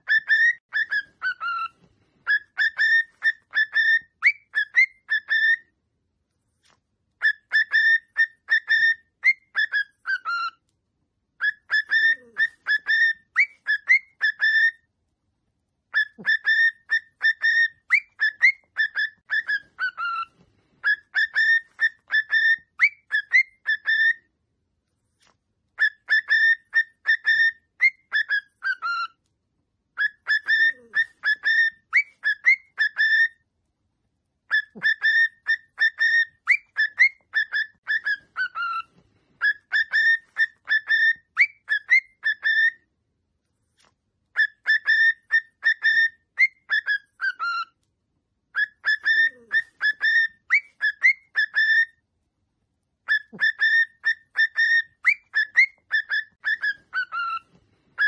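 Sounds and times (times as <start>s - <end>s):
cockatiel whistling: 0.0s - 5.7s, 7.2s - 10.7s, 11.4s - 14.9s, 15.9s - 24.3s, 25.7s - 29.2s, 29.9s - 33.4s, 34.5s - 42.9s, 44.3s - 47.8s, 48.5s - 52.0s, 53.0s - 58.0s.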